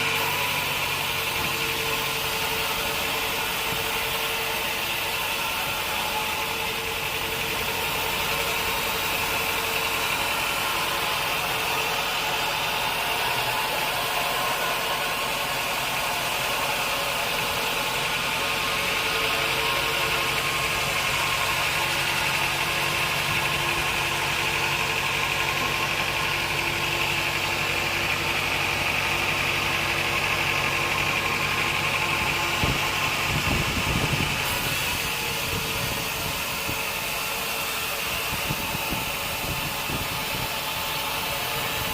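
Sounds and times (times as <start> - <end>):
motor hum: 0.0 - 41.9.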